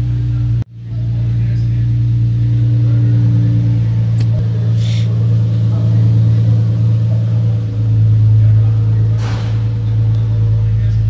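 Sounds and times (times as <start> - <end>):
car engine idling loudly: 0.0 - 11.0.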